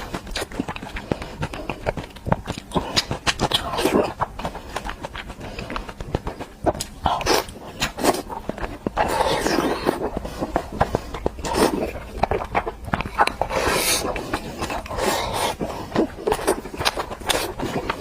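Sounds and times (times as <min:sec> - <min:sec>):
person chewing and smacking: 0:00.0 - 0:18.0.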